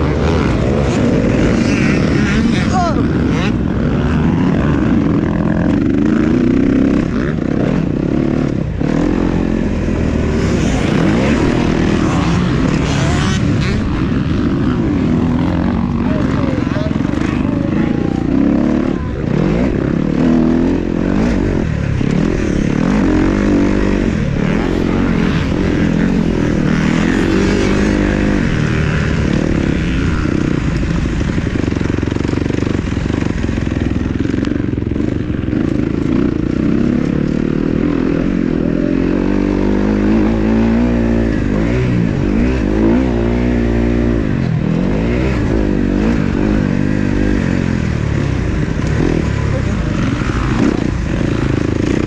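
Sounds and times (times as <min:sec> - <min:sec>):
dirt bikes racing: 0:00.0 - 0:52.0.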